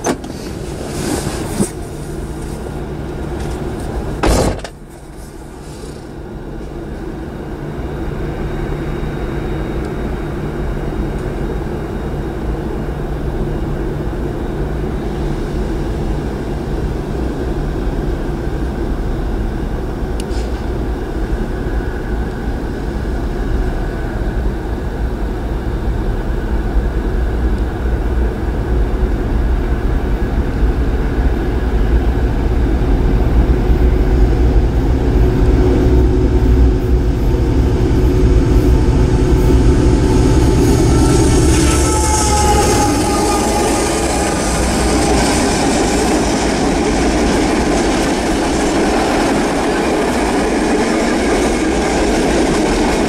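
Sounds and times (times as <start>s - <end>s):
diesel locomotive engine rumbling: 0.0s - 53.0s.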